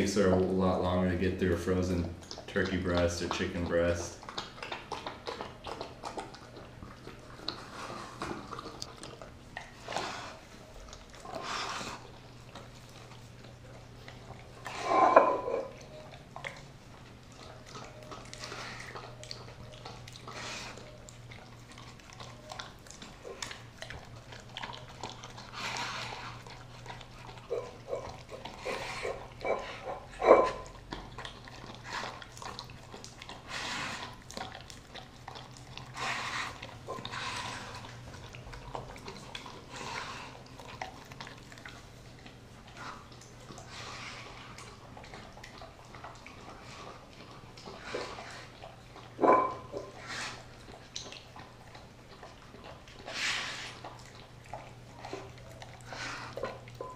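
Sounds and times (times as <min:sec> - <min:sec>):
dog licking and chewing meat: 0:00.0 - 0:56.9.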